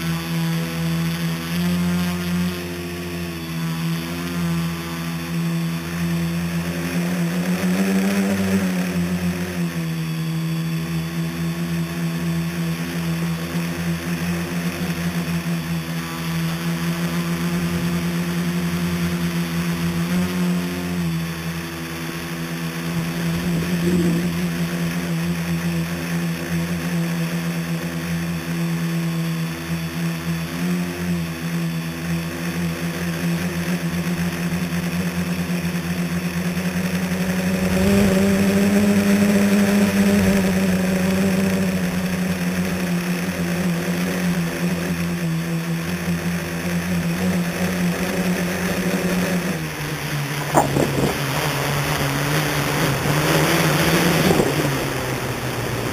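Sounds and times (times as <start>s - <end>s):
drone propellers buzzing: 0.0s - 55.9s.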